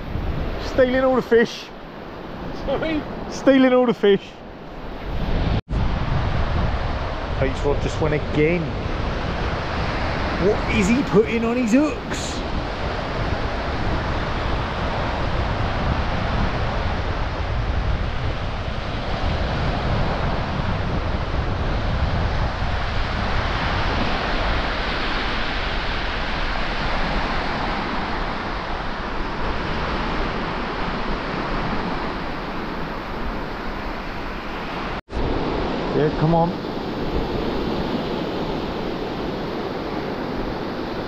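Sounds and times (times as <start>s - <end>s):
wind buffeting microphone: 0.0s - 3.4s, 4.4s - 41.0s
surf washing onto beach: 4.8s - 41.0s.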